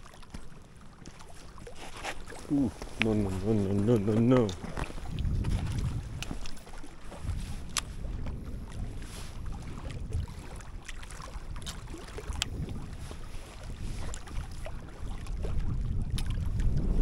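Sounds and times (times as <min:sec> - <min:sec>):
wind buffeting microphone: 0:02.5 - 0:17.0.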